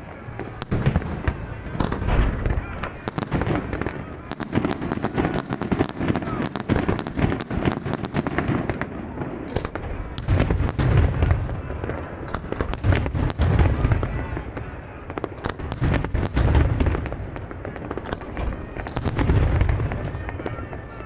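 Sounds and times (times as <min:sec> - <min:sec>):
low booms of shell bursts: 0:00.0 - 0:20.9
fireworks crackling: 0:00.0 - 0:21.0.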